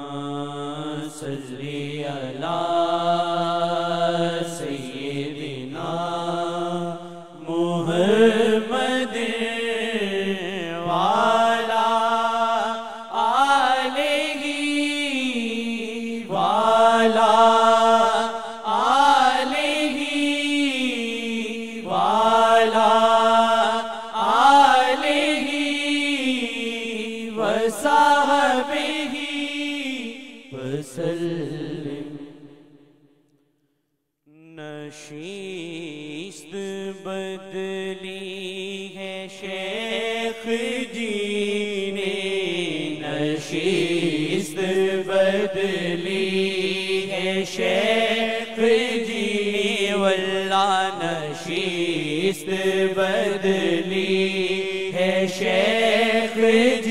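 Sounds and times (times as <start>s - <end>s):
man singing unaccompanied: 0.0s - 32.2s, 34.3s - 56.9s.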